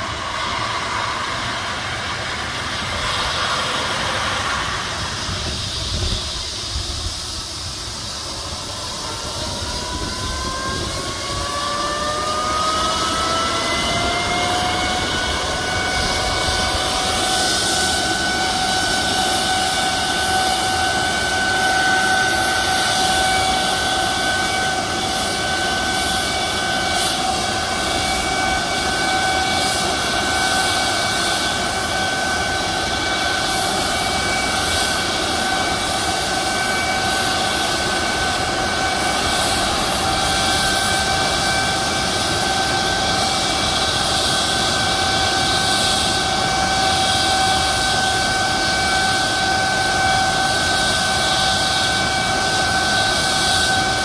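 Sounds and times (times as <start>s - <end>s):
helicopter engine whine: 0.0s - 54.0s.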